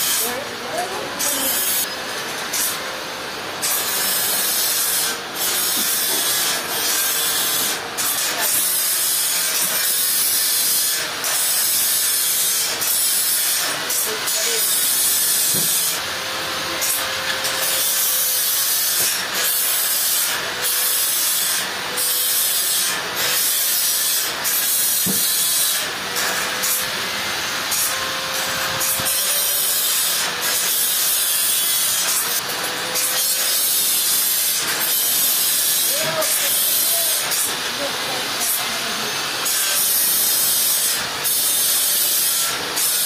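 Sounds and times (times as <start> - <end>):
saw cutting through log: 0.0 - 43.0.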